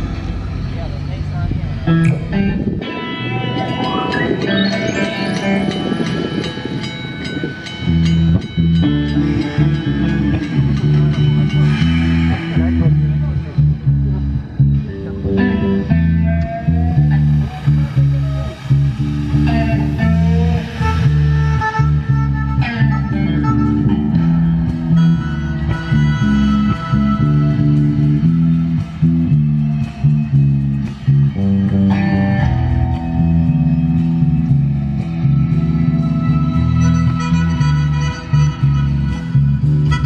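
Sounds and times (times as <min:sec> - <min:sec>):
bass guitar line: 0:00.0 - 0:40.0
electric guitar: 0:00.0 - 0:40.0.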